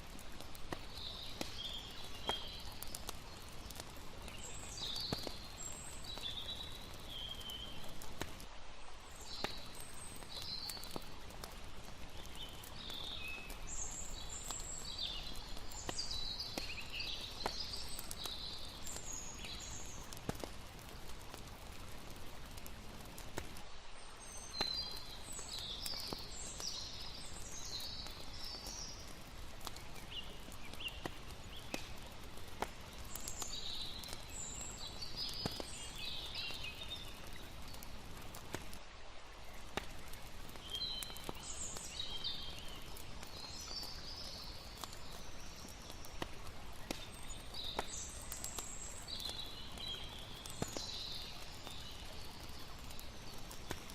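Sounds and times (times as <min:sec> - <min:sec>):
campfire crackling and popping: 0:00.0 - 0:53.9
running water: 0:00.0 - 0:53.9.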